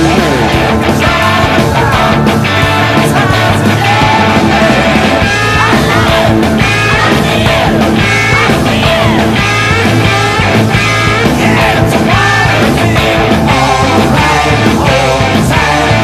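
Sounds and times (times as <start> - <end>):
electric guitar: 0.0 - 16.0
rock backing track: 0.0 - 16.0.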